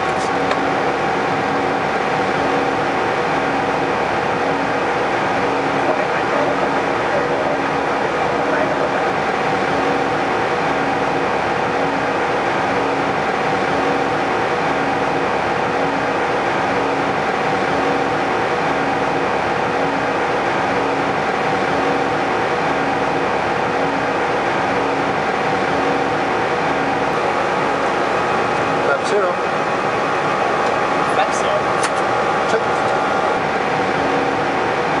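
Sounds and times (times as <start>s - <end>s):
constant hum: 0.0s - 35.0s
rush of air over cockpit: 0.0s - 35.0s.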